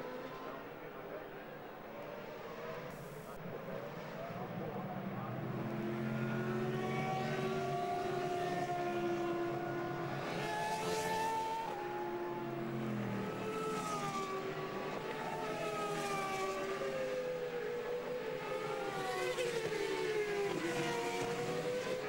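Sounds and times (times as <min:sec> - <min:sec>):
racing car engines passing: 0:00.0 - 0:22.0.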